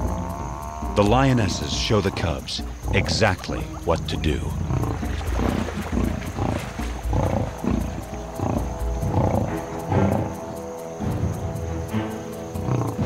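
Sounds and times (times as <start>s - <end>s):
background music with held notes: 0.0s - 13.0s
lionesses growling: 0.0s - 13.0s.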